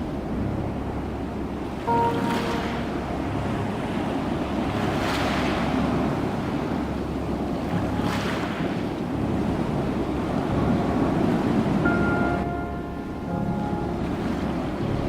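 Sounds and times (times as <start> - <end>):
surf rushing: 0.0 - 15.0
wave washing in: 0.0 - 15.0.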